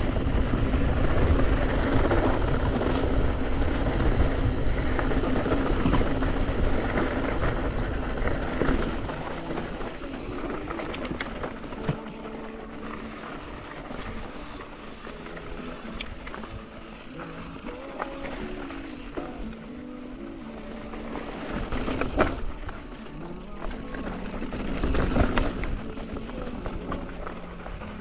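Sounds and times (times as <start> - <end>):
tyres rolling over gravel: 0.0 - 28.0
stones and bike parts rattling: 0.1 - 19.4, 20.9 - 28.0.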